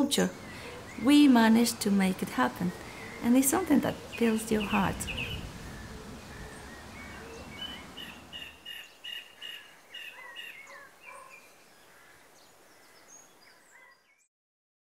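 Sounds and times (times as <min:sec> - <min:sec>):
low background hiss: 0:00.0 - 0:13.7
small birds chirping: 0:00.0 - 0:14.3.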